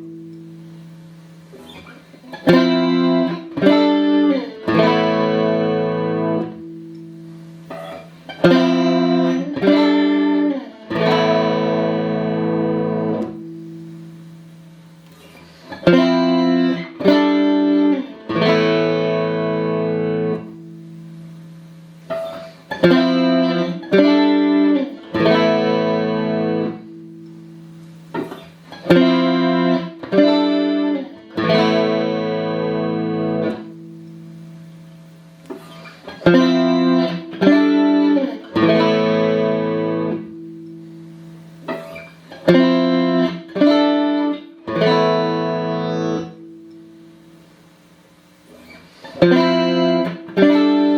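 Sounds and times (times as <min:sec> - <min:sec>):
clean electric guitar chords: 0:00.0 - 0:47.6, 0:48.4 - 0:50.9.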